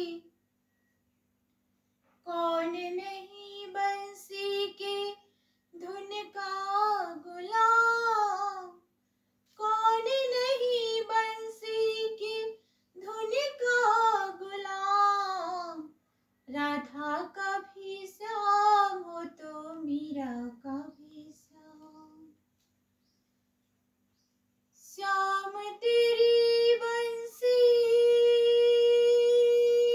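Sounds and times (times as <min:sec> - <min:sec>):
woman singing unaccompanied: 0:00.0 - 0:00.3, 0:02.2 - 0:05.2, 0:05.8 - 0:08.8, 0:09.5 - 0:22.3, 0:24.8 - 0:29.9.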